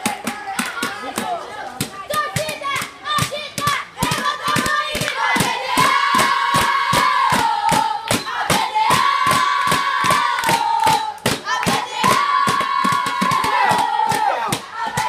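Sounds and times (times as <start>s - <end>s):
crowd chanting: 0.0s - 15.0s
rhythmic clapping: 0.0s - 15.0s.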